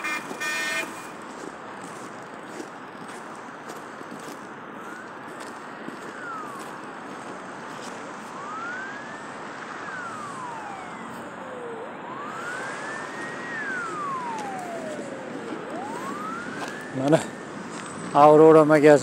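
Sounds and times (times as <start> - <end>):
emergency vehicle siren wailing: 0.0 - 19.0
traffic hiss: 0.0 - 19.0.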